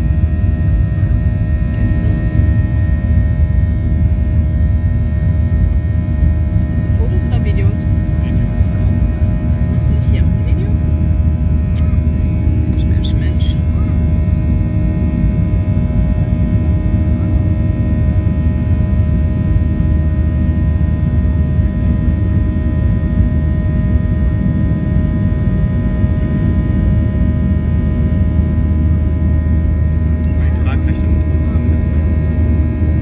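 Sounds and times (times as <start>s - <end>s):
jet engine rumble: 0.0s - 33.0s
steady whining tones: 0.0s - 33.0s.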